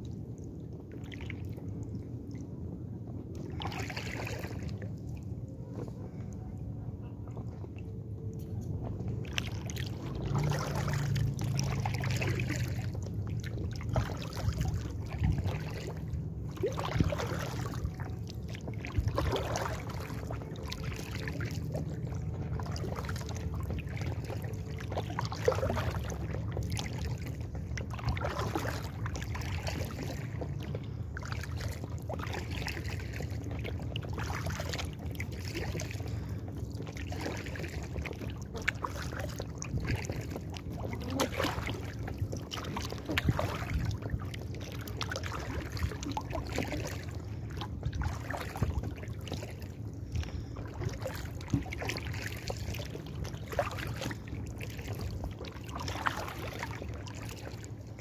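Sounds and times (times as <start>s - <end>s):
kayak paddle splashing: 0.0s - 1.9s, 3.4s - 5.9s, 8.7s - 58.0s
steady low rumble: 0.0s - 58.0s.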